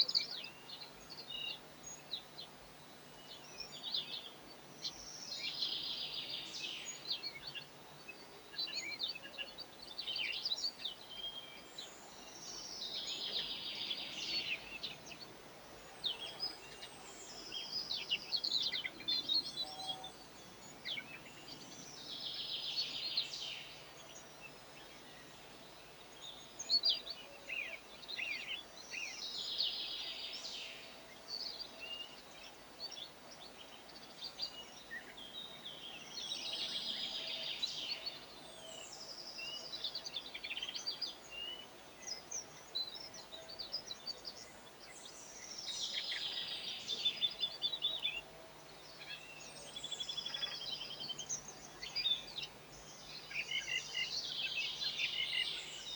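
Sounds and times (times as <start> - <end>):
songbird trilled song: 8.5 - 55.9.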